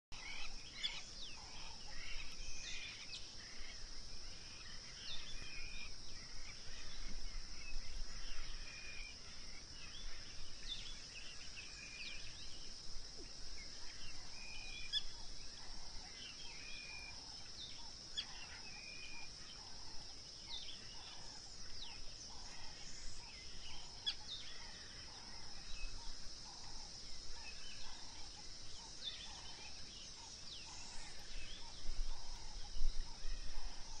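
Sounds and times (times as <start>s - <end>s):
lower bird calls: 0.1s - 34.0s.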